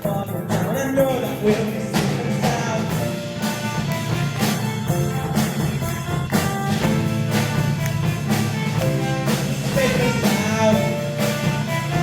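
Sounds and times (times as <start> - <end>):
upbeat pop instrumental: 0.0 - 12.0.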